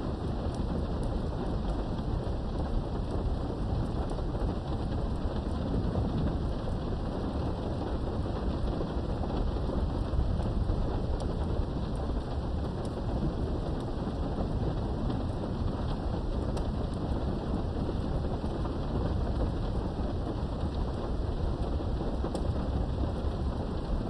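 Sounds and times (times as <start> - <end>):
heavy rain: 0.0 - 24.0
raindrop ticks: 0.1 - 24.0.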